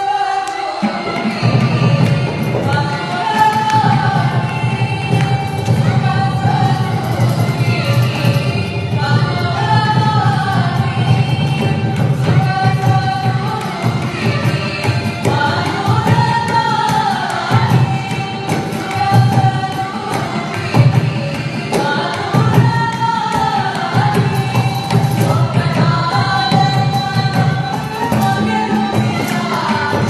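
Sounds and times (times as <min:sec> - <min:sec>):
violin: 0:00.0 - 0:30.0
voices singing: 0:00.0 - 0:30.0.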